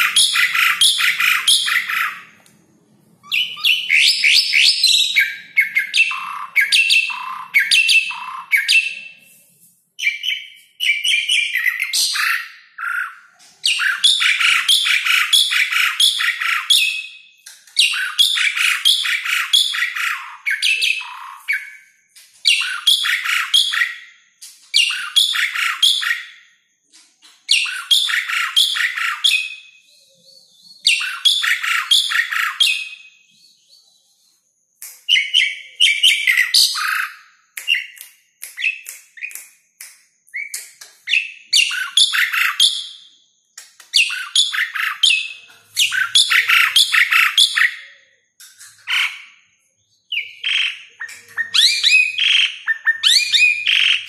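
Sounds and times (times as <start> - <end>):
starling singing chattering whistles: 3.2 - 9.2, 10.0 - 24.1, 27.5 - 34.4, 35.0 - 39.4, 40.3 - 43.1, 43.9 - 48.0, 48.7 - 54.0.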